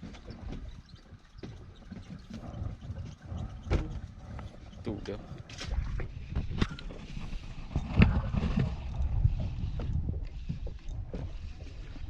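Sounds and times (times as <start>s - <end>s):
low rumble of boat and water: 0.0s - 12.0s
wind buffeting microphone: 0.0s - 12.0s.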